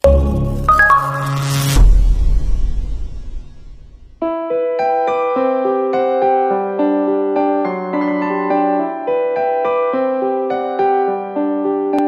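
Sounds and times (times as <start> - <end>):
piano melody: 0.0 - 2.2, 4.2 - 12.0.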